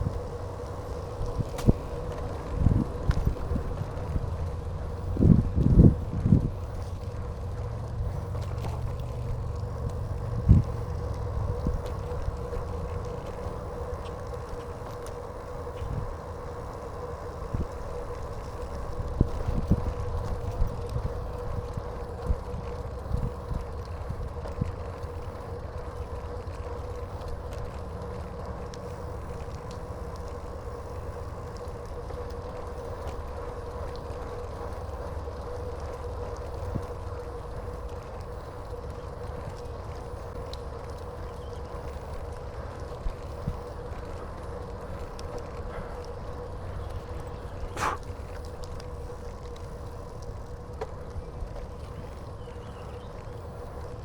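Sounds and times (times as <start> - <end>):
bicycle tyres rumbling: 0.0 - 54.0
faint steady whine: 0.0 - 54.0
wind: 0.0 - 54.0.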